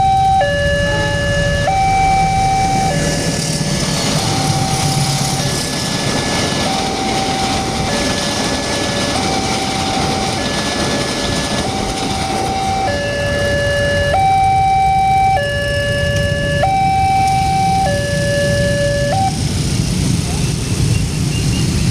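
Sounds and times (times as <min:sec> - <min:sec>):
level crossing siren two-tone: 0:00.0 - 0:03.4, 0:04.0 - 0:19.4.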